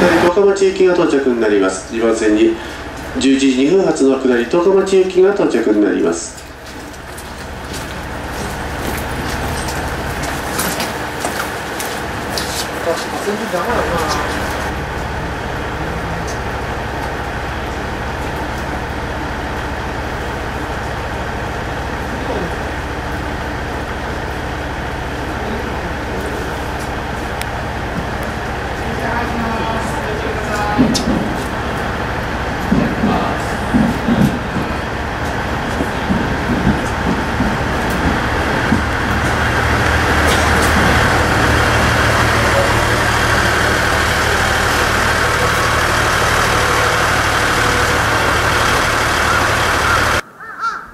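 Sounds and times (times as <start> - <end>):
diesel railcar engine and wheels drone: 0.0 - 50.4.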